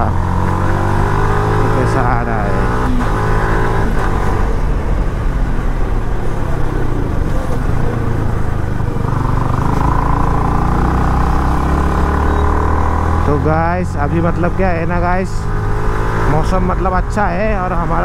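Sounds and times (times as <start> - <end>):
motorcycle engine running: 0.0 - 18.0
steady rushing wind noise: 0.0 - 18.0.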